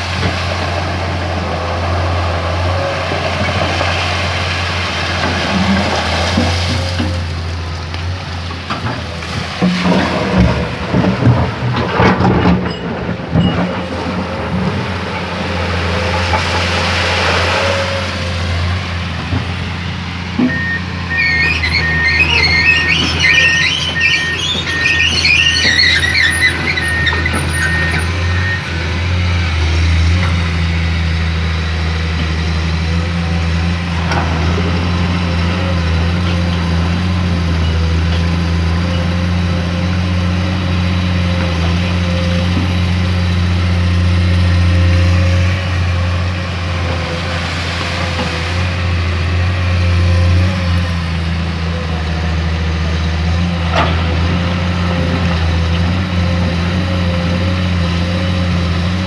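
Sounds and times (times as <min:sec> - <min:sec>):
excavator diesel engine humming: 0:00.0 - 0:59.0.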